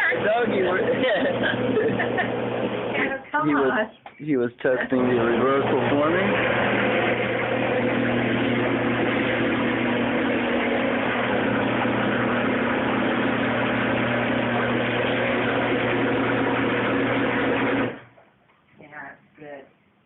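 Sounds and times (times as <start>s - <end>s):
garage door opener motor humming: 0.0s - 3.6s, 4.9s - 18.1s.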